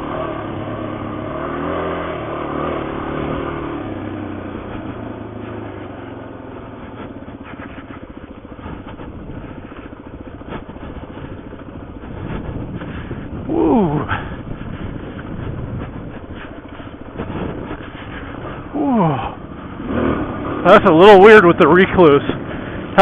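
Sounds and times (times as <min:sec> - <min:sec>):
motorcycle engine chugging: 0:00.0 - 0:23.0.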